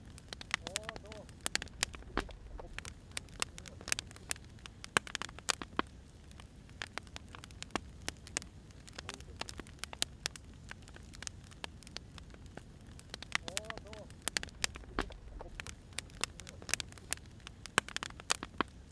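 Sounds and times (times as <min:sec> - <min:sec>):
low steady rumble: 0:00.0 - 0:05.4, 0:06.2 - 0:17.8
firewood crackling and popping: 0:00.0 - 0:18.9.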